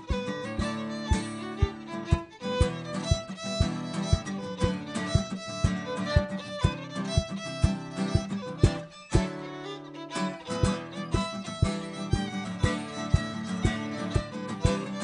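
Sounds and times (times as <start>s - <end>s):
fiddle playing melody: 0.0s - 15.0s
guitar strumming: 0.0s - 15.0s.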